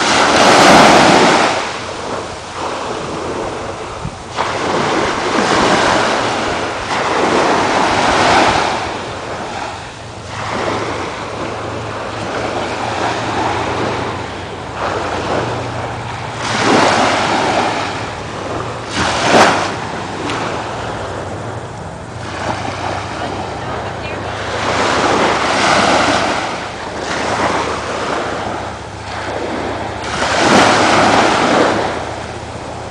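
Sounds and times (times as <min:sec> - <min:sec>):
small waves breaking on shore: 0:00.0 - 0:32.9.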